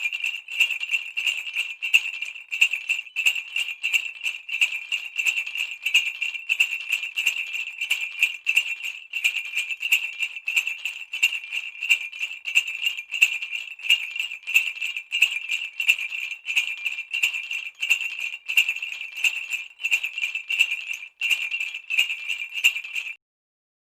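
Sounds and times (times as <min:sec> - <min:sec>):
sleigh bells jingling: 0:00.0 - 0:23.2.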